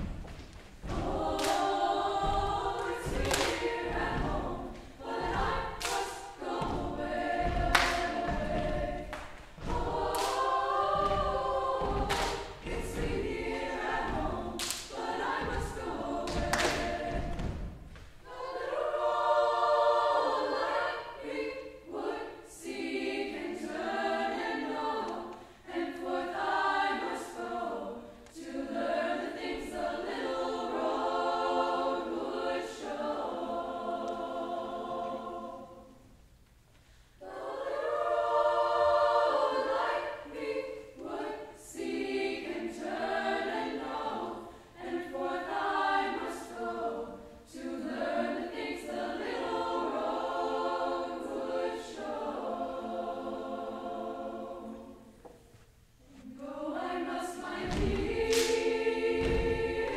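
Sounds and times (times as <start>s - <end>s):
girls choir singing: 0.0s - 59.9s.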